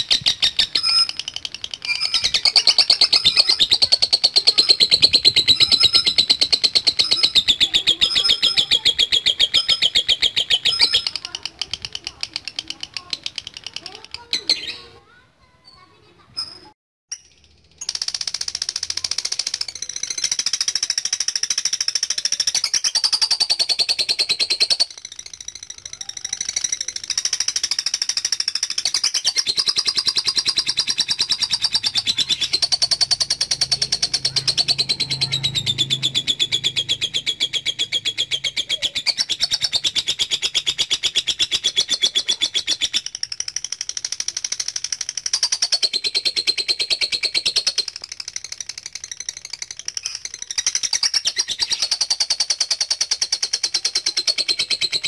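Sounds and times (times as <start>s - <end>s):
lovebird chattering trill: 0.0s - 55.0s.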